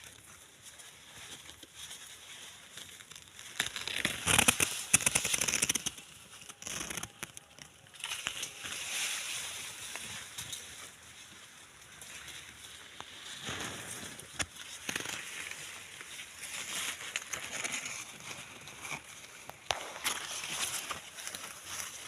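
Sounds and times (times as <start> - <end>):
maize plants rustling and crackling: 0.0 - 22.0.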